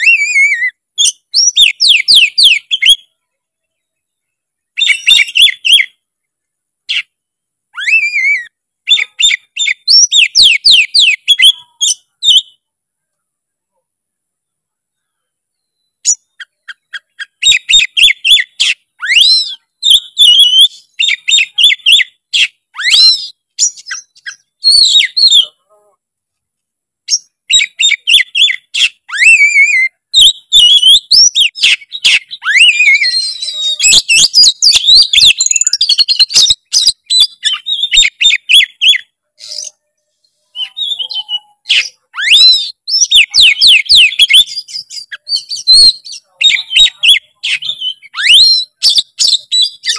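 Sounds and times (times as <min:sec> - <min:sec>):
magpie-robin singing: 0:00.0 - 0:06.0, 0:06.9 - 0:12.7, 0:15.0 - 0:25.6, 0:27.0 - 0:49.9.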